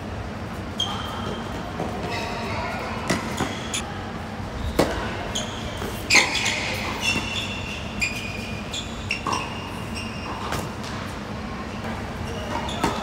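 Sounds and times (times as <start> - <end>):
sneakers squeaking on court: 0.6 - 3.8, 4.7 - 13.0.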